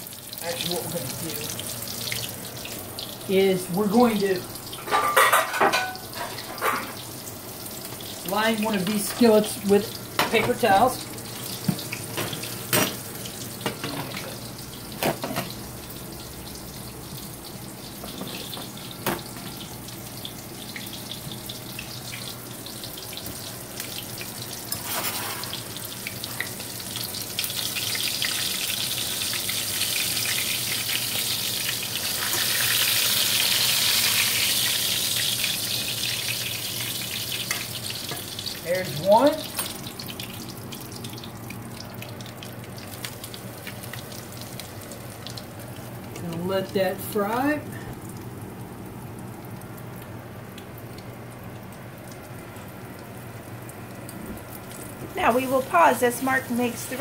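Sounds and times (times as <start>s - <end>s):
meat sizzling in hot oil: 0.0s - 57.0s.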